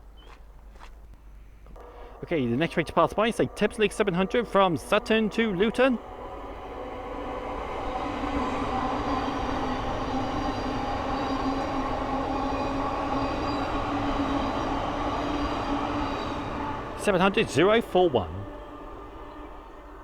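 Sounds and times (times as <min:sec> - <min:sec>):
electric train passing: 0:01.8 - 0:20.0.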